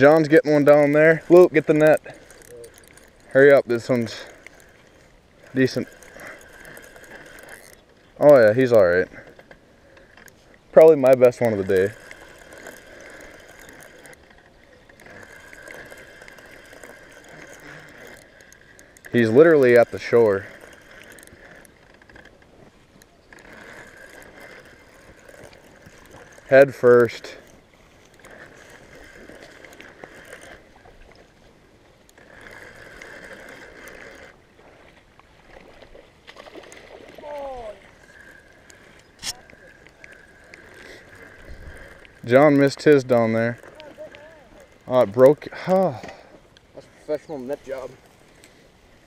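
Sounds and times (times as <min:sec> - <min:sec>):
fishing reel whirring: 0:00.0 - 0:49.0.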